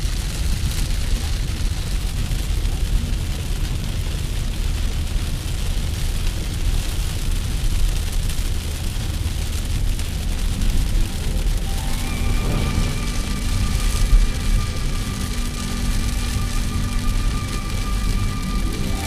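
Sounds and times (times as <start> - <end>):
deep constant rumble: 0.0 - 19.0
steady rain hissing: 0.0 - 19.0.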